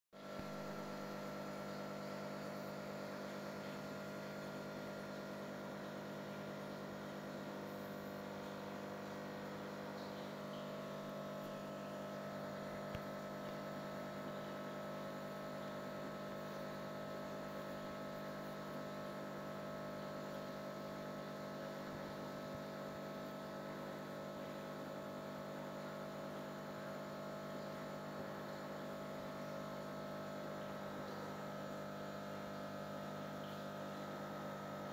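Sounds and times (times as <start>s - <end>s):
electrical hum of aquarium equipment: 0.2s - 34.9s.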